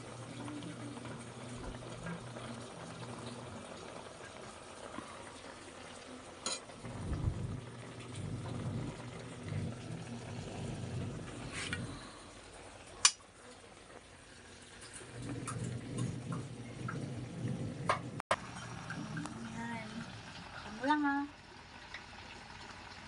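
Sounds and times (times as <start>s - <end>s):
meat simmering in a pan: 0.0s - 23.0s.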